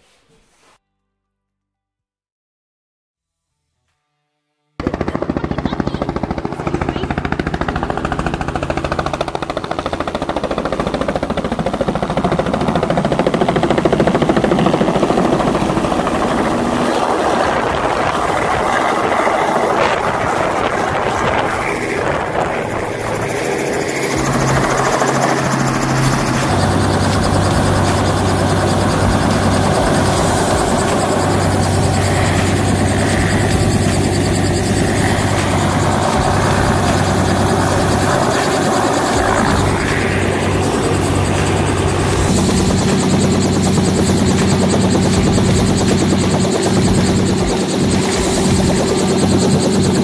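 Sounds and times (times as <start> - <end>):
helicopter rotor chopping: 4.8 - 50.0.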